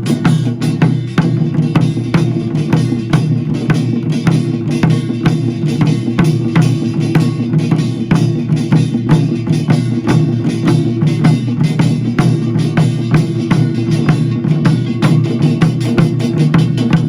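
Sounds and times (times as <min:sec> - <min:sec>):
drums struck in steady beat: 0:00.0 - 0:17.0
ringing gongs: 0:00.0 - 0:17.0.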